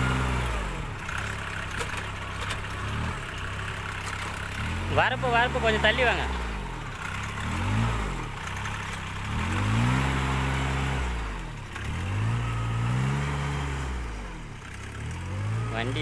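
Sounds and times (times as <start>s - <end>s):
rice transplanter engine running: 0.0s - 16.0s.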